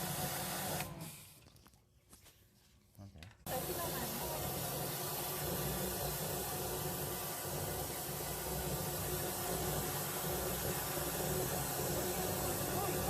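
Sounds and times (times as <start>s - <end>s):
pressure washer water jet hiss: 0.0s - 1.0s, 3.5s - 13.0s.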